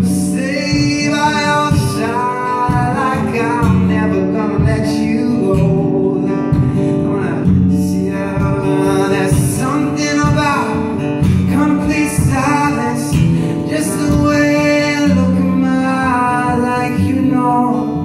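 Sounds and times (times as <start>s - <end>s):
acoustic guitar strumming: 0.0s - 18.0s
man singing into a microphone: 0.0s - 18.0s.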